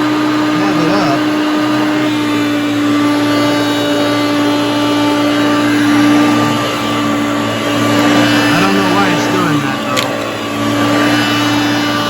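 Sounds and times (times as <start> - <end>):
airflow rush: 0.0 - 12.0
vacuum cleaner motor hum: 0.0 - 12.0.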